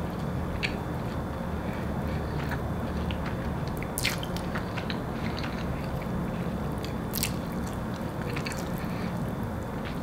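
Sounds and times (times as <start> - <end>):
person chewing noodles: 0.0 - 10.0.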